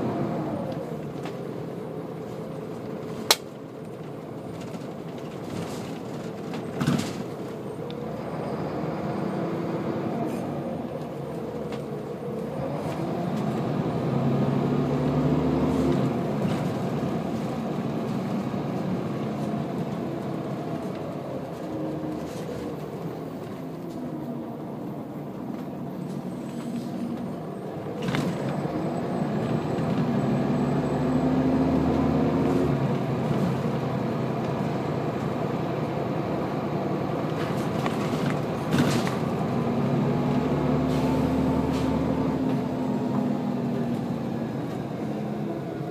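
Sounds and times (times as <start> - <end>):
bus diesel engine: 0.0 - 45.9.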